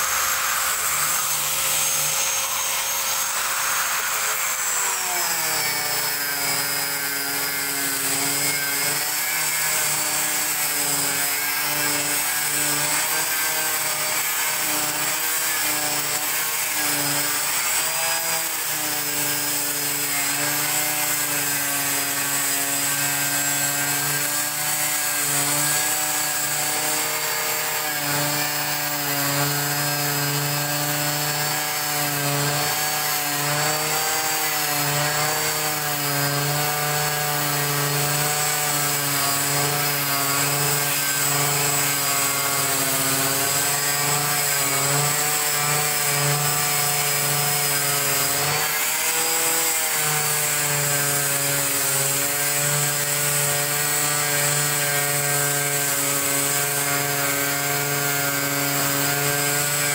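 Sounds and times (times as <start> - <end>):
angle grinder cutting acrylic: 0.0 - 59.9.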